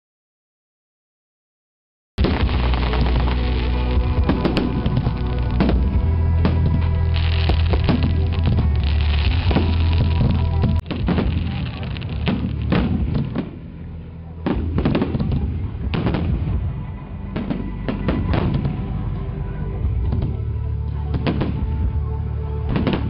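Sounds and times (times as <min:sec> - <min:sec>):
music playing: 0:02.2 - 0:23.0.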